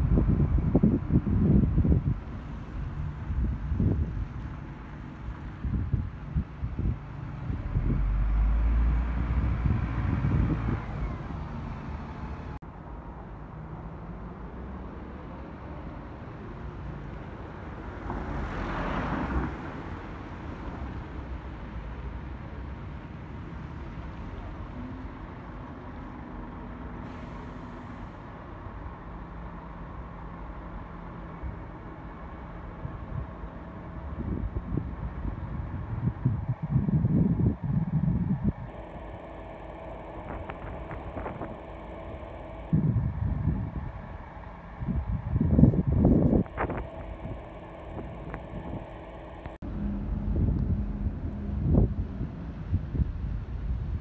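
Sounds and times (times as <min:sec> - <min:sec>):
bus diesel engine rumbling: 0:00.0 - 0:54.0.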